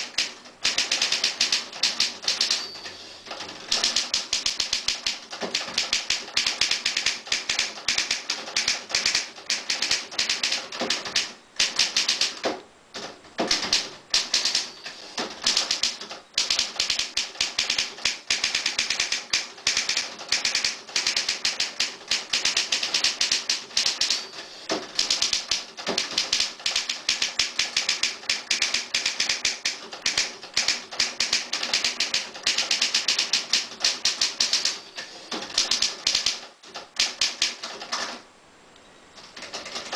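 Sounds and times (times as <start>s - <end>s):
typewriter keys clattering: 0.0s - 38.2s, 39.2s - 39.9s.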